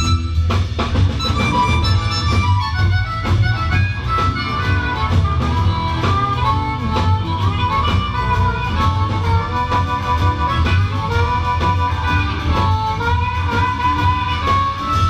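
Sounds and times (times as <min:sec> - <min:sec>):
amplified harmonica solo: 0:00.0 - 0:15.0
bass: 0:00.0 - 0:15.0
drums: 0:00.0 - 0:15.0
electric guitar: 0:00.0 - 0:15.0.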